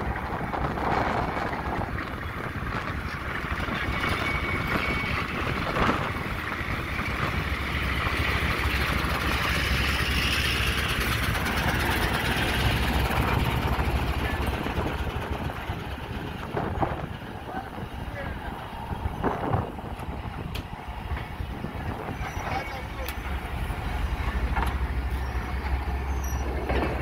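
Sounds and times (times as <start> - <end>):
diesel locomotive running under power: 0.0 - 27.0
wheels rumbling on rails: 0.0 - 27.0.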